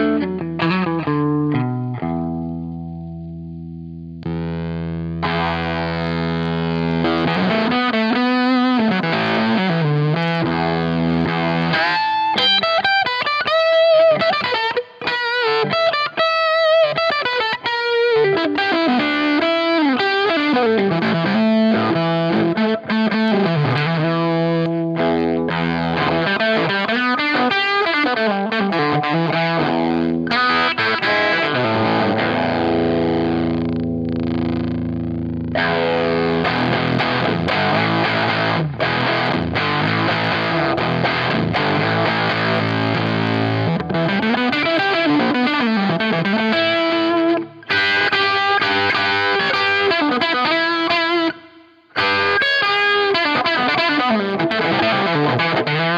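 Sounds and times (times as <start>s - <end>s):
fuzz distorted electric guitar: 0.0s - 55.9s.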